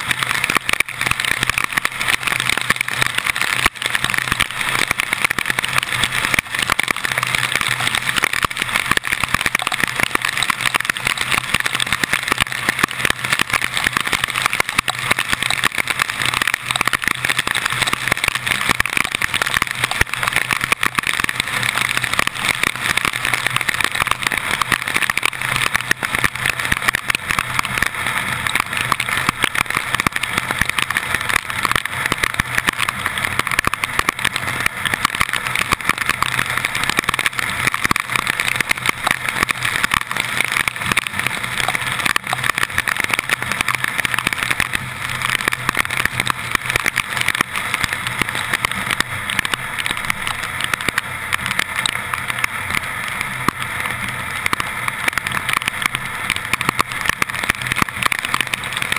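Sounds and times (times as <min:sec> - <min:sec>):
rain: 0:00.0 - 0:58.9
tyres on wet road: 0:00.0 - 0:58.9.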